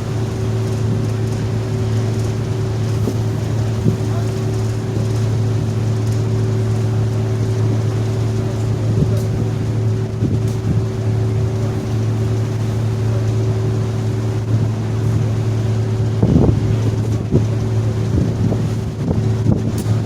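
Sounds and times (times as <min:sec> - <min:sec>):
ferry engines droning: 0:00.0 - 0:20.0
wind buffeting microphone: 0:00.0 - 0:20.0.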